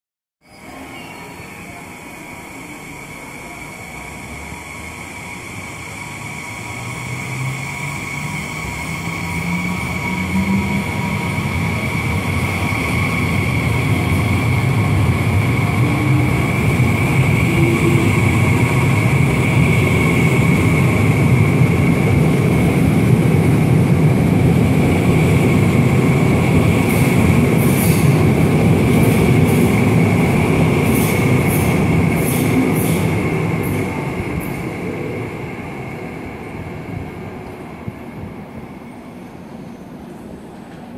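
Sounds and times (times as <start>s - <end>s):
electric train passing: 0.6s - 40.9s.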